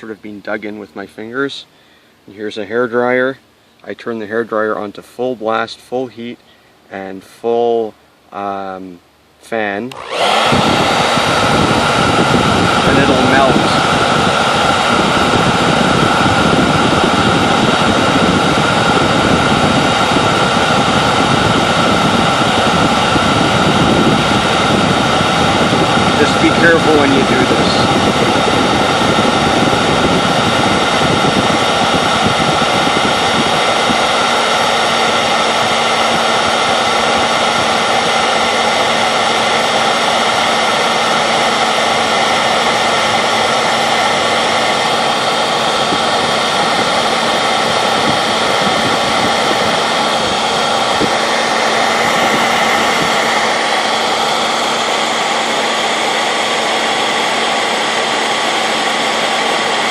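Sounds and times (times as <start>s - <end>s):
hair dryer running: 9.9s - 59.9s.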